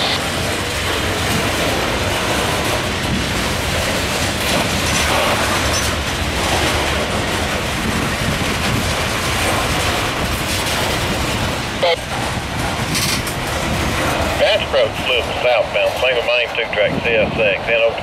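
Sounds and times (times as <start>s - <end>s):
steel wheels on rails: 0.0s - 18.0s.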